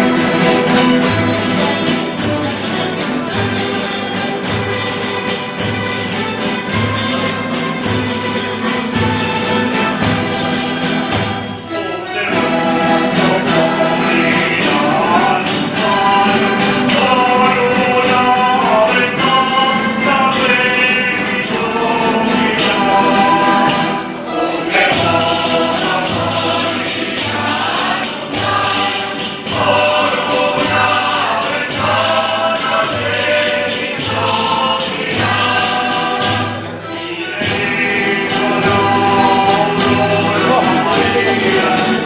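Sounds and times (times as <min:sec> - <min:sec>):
group singing in chorus: 0:00.0 - 0:42.0
tambourine jingling: 0:00.0 - 0:42.0.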